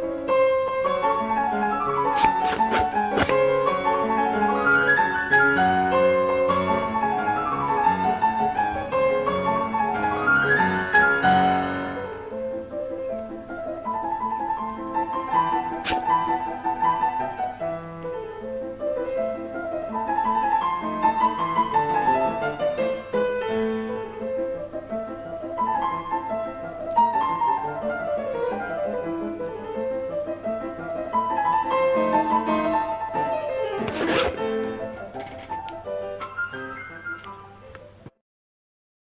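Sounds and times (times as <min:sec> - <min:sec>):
fast solo piano: 0:00.0 - 0:37.6.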